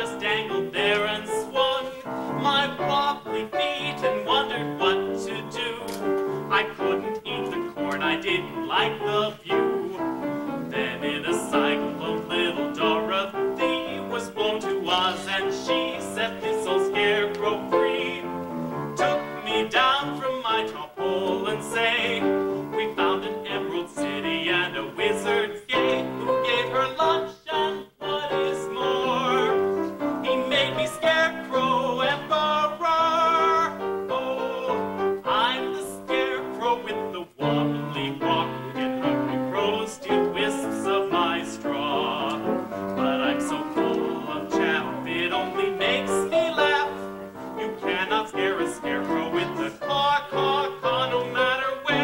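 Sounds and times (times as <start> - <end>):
man singing: 0.0 - 52.0
piano accompaniment: 0.0 - 52.0.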